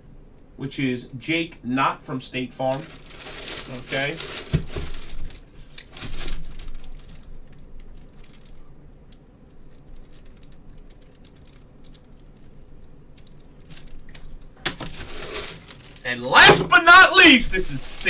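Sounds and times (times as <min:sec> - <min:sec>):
plastic bag crinkling: 0:02.7 - 0:18.0.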